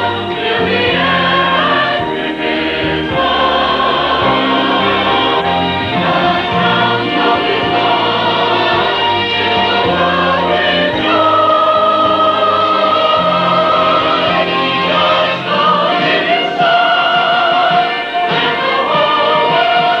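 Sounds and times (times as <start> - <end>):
choir singing sustained notes: 0.0 - 20.0.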